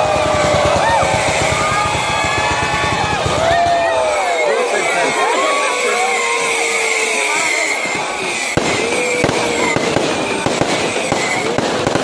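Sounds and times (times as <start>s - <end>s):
fireworks bangs and pops: 0.0s - 5.3s, 6.6s - 12.0s.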